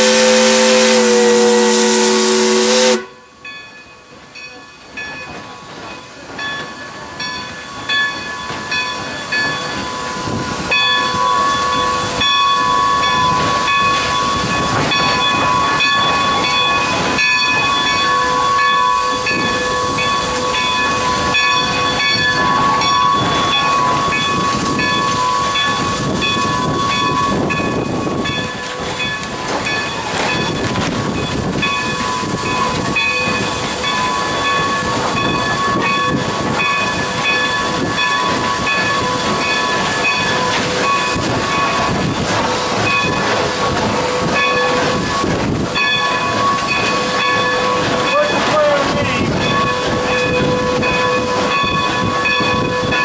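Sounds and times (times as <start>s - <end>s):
steam hissing: 0.0s - 3.2s, 5.1s - 53.0s
regular locomotive beat: 0.0s - 53.0s.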